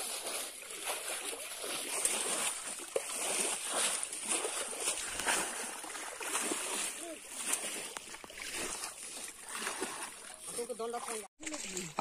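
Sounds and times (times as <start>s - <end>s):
water pouring through net: 0.0s - 12.0s
water splashing from bailing bowls: 0.0s - 12.0s.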